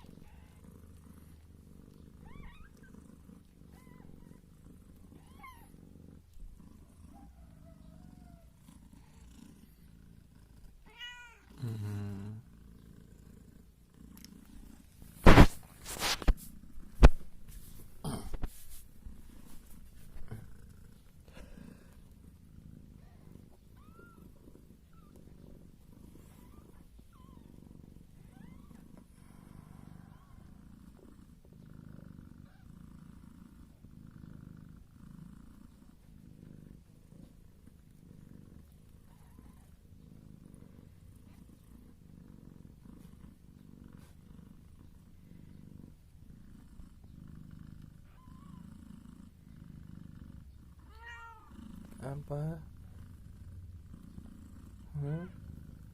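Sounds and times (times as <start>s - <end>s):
cat purring: 0.0s - 55.9s.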